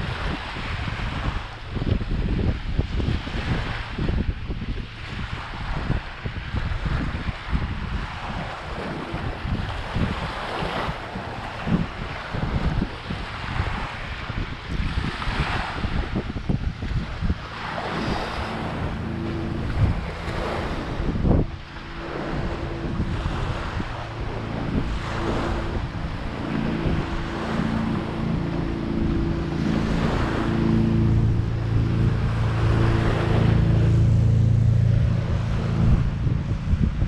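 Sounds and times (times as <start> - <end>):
engine hum: 0.0 - 37.0
waves washing onto beach: 0.0 - 37.0
wind buffeting microphone: 0.0 - 37.0.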